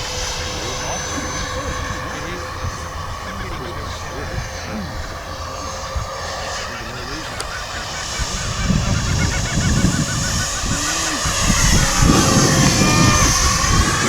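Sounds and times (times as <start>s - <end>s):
model jet electric fan whine: 0.0s - 14.0s
wind buffeting microphone: 0.0s - 14.0s.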